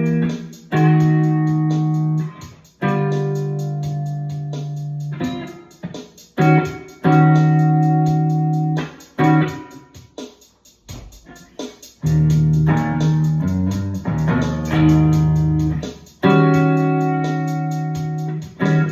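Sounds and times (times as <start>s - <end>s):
electric guitar playing blues: 0.0s - 9.9s, 11.2s - 18.9s.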